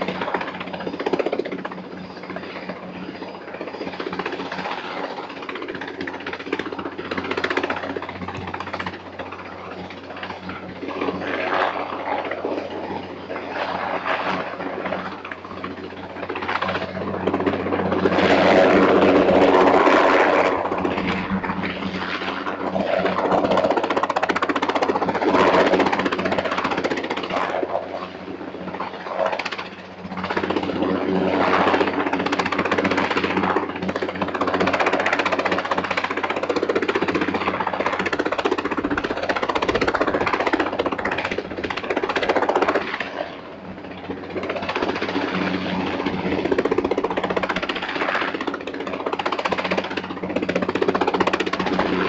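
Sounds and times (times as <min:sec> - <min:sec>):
helicopter engine drone: 0:00.0 - 0:52.0
helicopter rotor blades chopping: 0:00.0 - 0:52.0.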